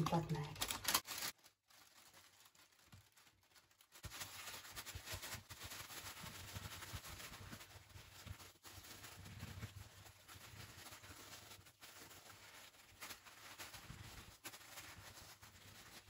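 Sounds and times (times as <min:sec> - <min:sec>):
paper rustling: 0:00.0 - 0:16.0.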